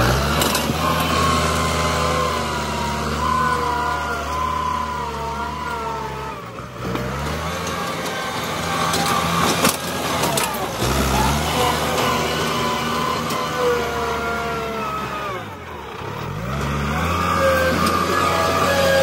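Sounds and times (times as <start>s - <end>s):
engine whine: 0.0s - 19.0s
tractor diesel engine under load: 0.0s - 19.0s.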